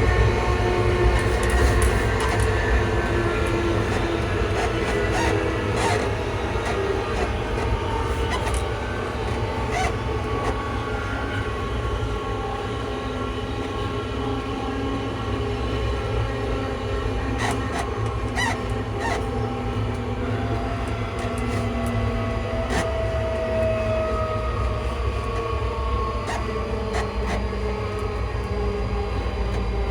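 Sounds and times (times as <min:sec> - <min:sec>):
train traction motor whine: 0:00.0 - 0:29.9.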